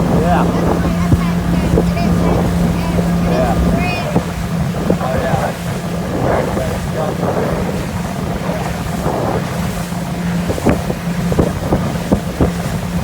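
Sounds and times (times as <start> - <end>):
hull slapping water: 0.0 - 13.0
motorboat engine hum: 0.0 - 13.0
wind buffeting microphone: 0.0 - 13.0.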